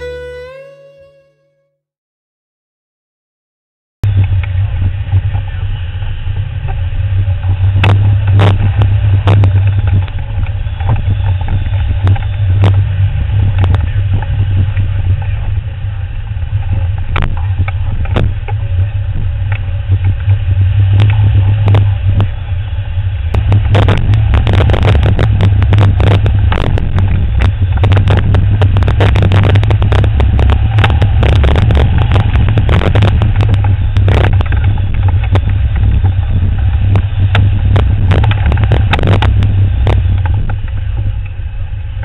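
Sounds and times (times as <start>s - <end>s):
wind rumbling on microphone: 4.0s - 42.0s.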